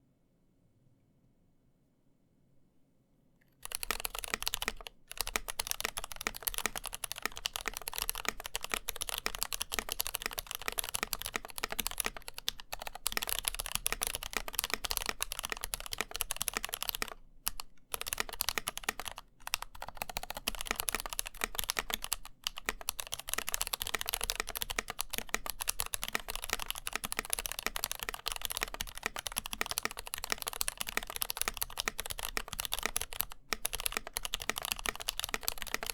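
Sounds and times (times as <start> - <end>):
fast typing on mechanical keyboard: 3.6 - 35.9.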